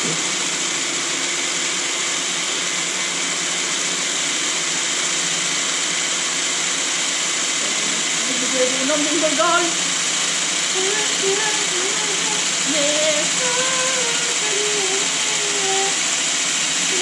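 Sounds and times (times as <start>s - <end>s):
cordless drill boring through metal: 0.0s - 17.0s.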